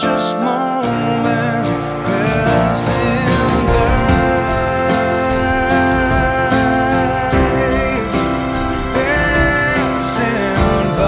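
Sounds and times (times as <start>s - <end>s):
song with guitar: 0.0s - 11.0s
held melody note: 1.0s - 11.0s.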